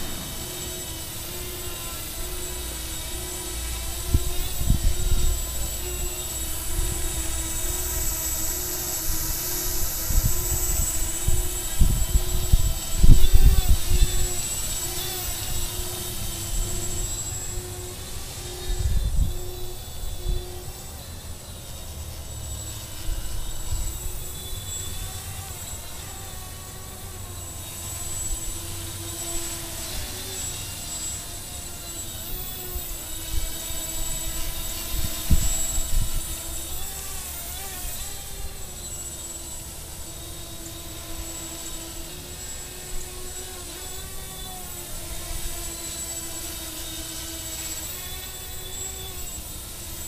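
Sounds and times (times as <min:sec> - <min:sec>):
quadcopter propellers whining: 0:00.0 - 0:50.0.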